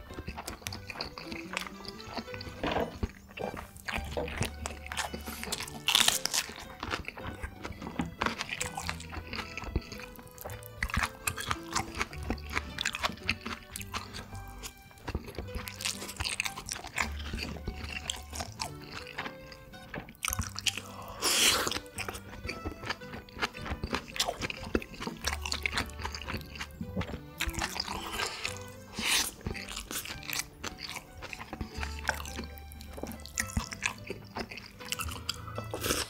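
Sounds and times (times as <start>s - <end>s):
background music with bass: 0.0s - 36.0s
chewing crunchy food: 0.0s - 36.0s.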